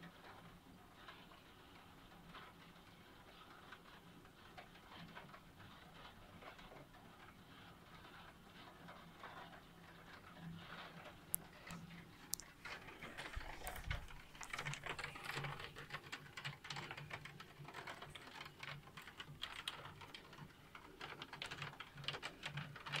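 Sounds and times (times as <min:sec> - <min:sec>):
raindrops ticking and tapping: 0:00.1 - 0:23.0.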